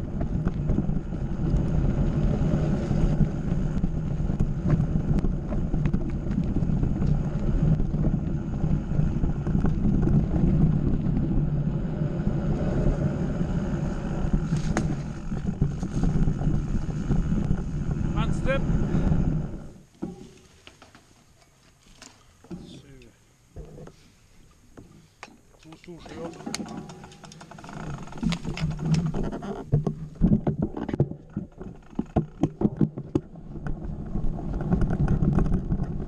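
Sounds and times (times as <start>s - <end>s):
bike tyres rumbling on gravel: 0.0s - 22.9s, 25.8s - 36.0s
stones and bike rattling: 0.0s - 23.9s, 24.6s - 36.0s.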